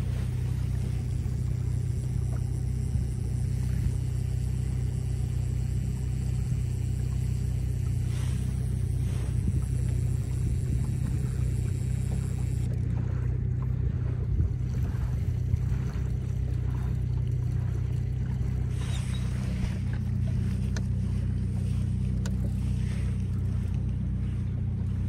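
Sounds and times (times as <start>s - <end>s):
outboard motor droning: 0.0s - 25.0s
water wash: 0.0s - 25.0s.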